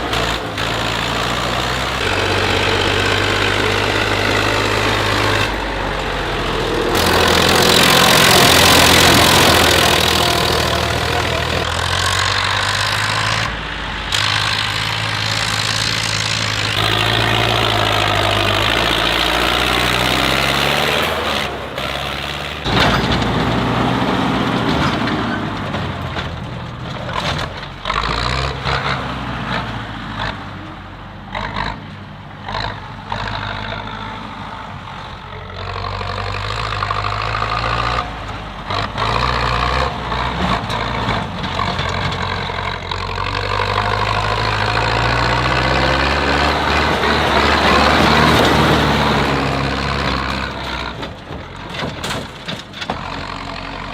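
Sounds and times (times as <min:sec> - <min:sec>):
tractor engines running: 0:00.0 - 0:53.9.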